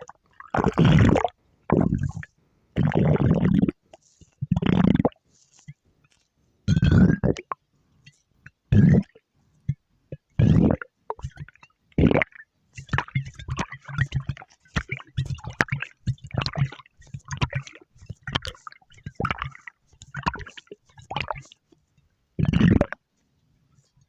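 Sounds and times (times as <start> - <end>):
stomach gurgling and growling: 0.0 - 23.1.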